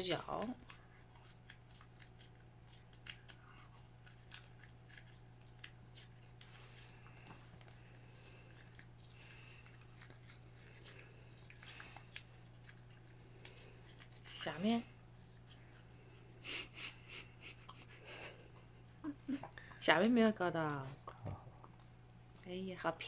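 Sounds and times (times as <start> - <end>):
toothbrush scrubbing teeth: 0.0 - 19.4.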